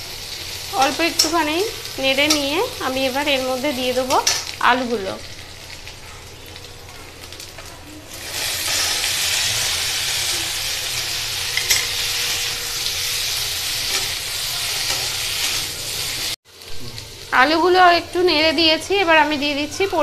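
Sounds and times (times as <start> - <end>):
potatoes sizzling in hot oil: 0.0 - 20.0.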